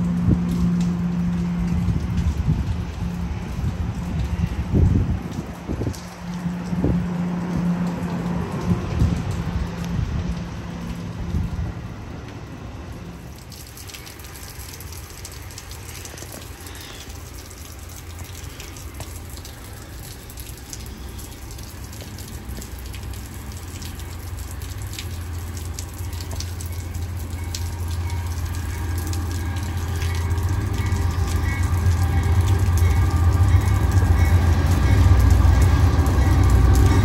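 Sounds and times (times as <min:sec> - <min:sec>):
approaching train hum: 0:00.0 - 0:37.0
steady rain: 0:00.0 - 0:37.0
train rumbling: 0:00.0 - 0:37.0
water dripping on canopy: 0:00.0 - 0:37.0.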